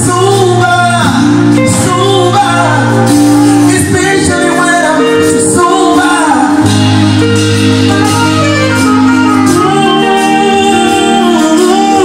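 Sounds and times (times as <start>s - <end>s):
live band music: 0.0s - 12.0s
person singing: 0.0s - 12.0s.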